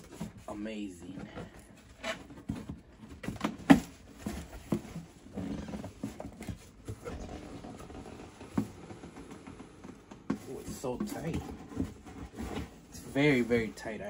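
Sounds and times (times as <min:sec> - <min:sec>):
cardboard scraping and knocking: 0:00.0 - 0:14.0.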